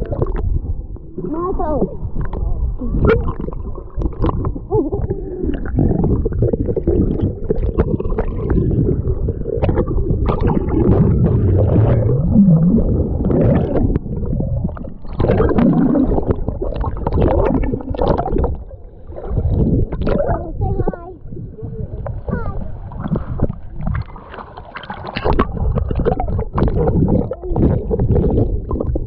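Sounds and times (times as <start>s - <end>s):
water sloshing and gurgling: 0.0s - 29.0s.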